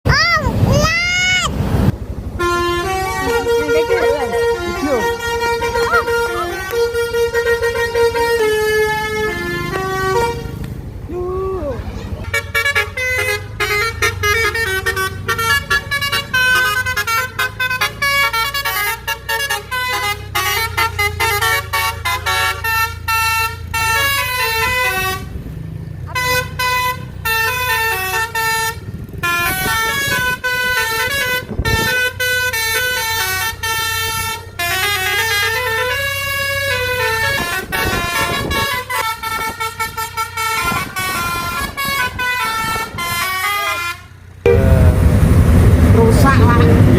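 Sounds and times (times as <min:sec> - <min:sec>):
low engine rumble: 0:00.1 - 0:46.9
multi-tone bus horn tune: 0:02.3 - 0:10.8, 0:12.2 - 0:45.1.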